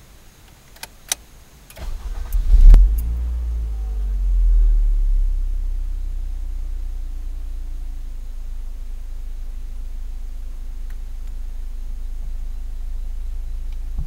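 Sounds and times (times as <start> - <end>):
car engine starting and idling: 1.7 - 14.0.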